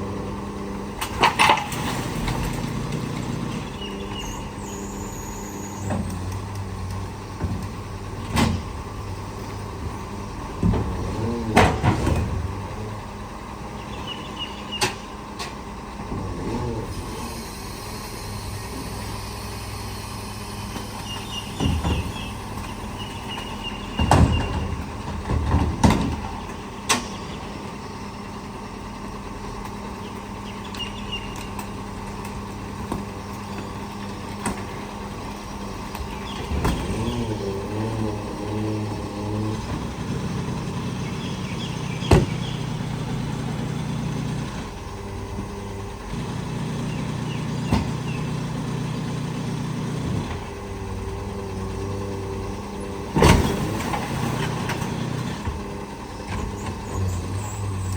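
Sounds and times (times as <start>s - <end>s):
garbage truck engine running: 0.0s - 57.9s.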